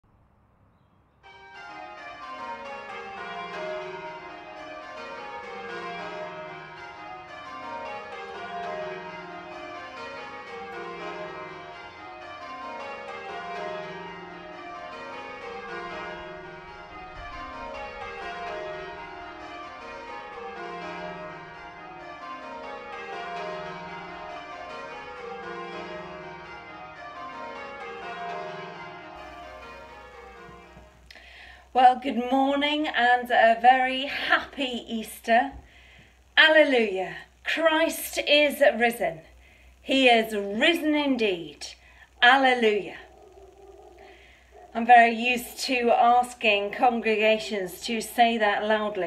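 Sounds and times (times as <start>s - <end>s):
church bells ringing: 1.2s - 37.0s, 37.6s - 49.0s.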